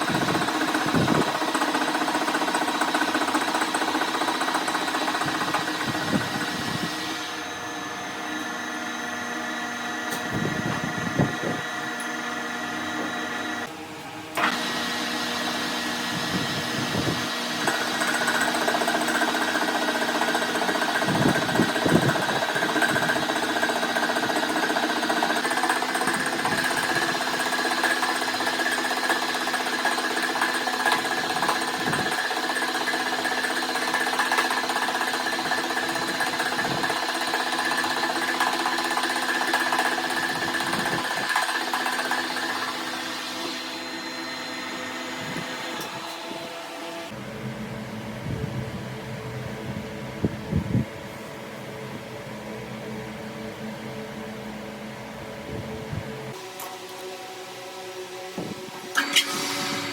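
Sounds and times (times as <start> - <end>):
machine tool whining hum: 0.0 - 59.9.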